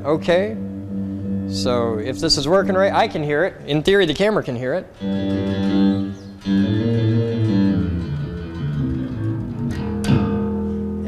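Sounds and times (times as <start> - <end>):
plucked electric bass notes: 0.0 - 11.0.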